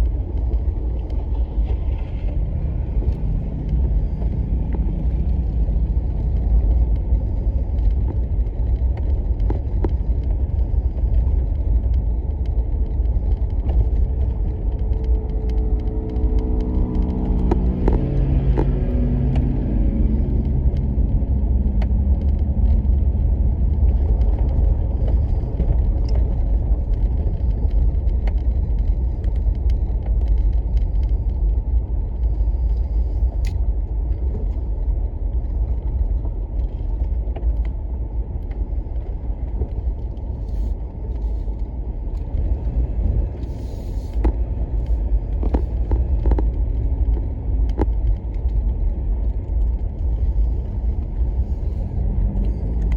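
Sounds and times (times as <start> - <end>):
car road rumble inside cabin: 0.0 - 52.9
faint clicks and ticks: 0.0 - 52.9.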